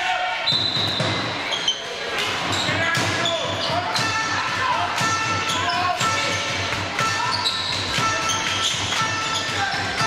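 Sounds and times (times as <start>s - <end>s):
ball bouncing on court: 0.5s - 10.0s
shoes squeaking: 0.5s - 10.0s.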